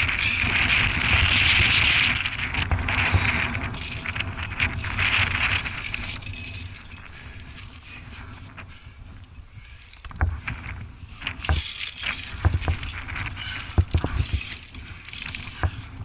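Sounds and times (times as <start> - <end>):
climbing gear jangling and clinking: 0.0 - 8.5, 11.2 - 16.0.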